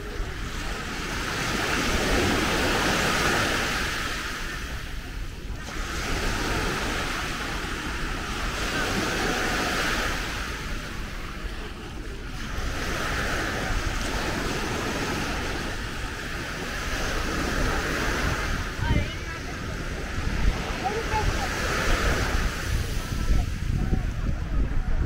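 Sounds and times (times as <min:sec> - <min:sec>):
sea waves breaking on shore: 0:00.0 - 0:25.0
wind buffeting microphone: 0:00.0 - 0:25.0.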